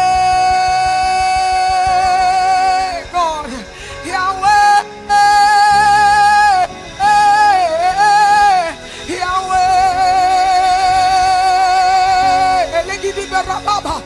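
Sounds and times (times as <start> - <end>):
person singing long notes: 0.0 - 14.0
soft musical backing: 0.0 - 14.0.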